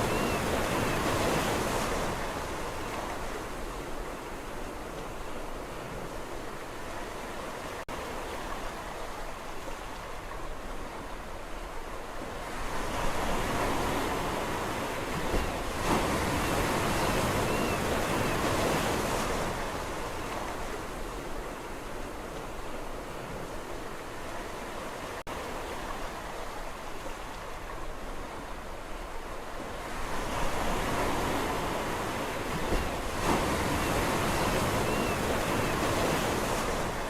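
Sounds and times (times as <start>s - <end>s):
sea waves breaking on shore: 0.0s - 37.0s.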